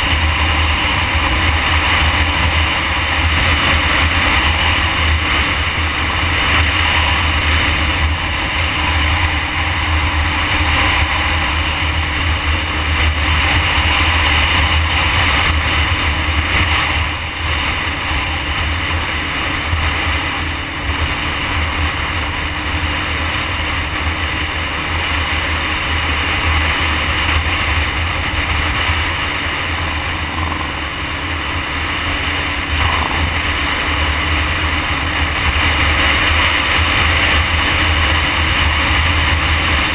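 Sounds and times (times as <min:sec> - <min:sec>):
motorcycle engine: 0:00.0 - 0:39.9
road noise: 0:00.0 - 0:39.9
wind rumble on microphone: 0:00.0 - 0:39.9.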